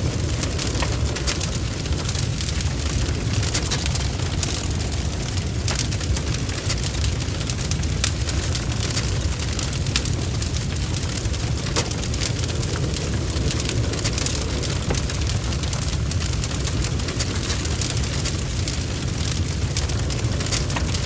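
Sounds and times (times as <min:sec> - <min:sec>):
fire crackling and spitting: 0:00.0 - 0:21.0
fire rumbling: 0:00.0 - 0:21.0.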